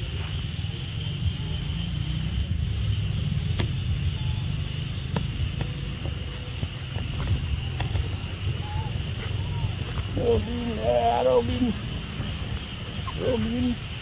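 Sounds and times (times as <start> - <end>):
insects droning: 0.0 - 14.0
low microphone rumble: 0.0 - 14.0.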